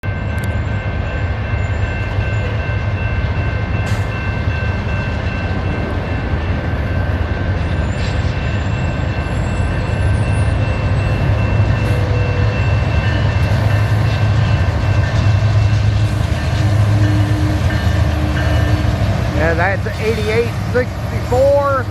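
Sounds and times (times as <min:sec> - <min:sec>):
diesel locomotives rumbling: 0:00.0 - 0:21.9.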